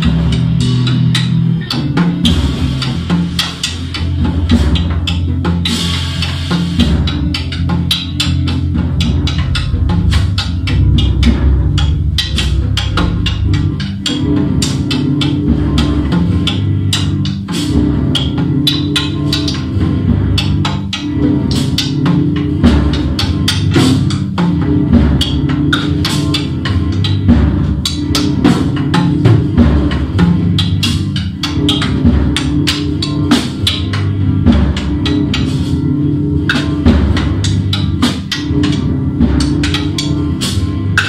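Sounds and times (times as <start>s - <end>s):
drum and percussion music: 0.0s - 41.0s.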